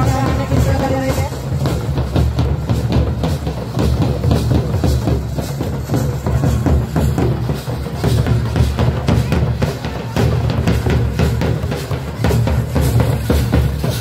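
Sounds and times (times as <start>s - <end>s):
drums playing fast dance rhythm: 0.0s - 14.0s.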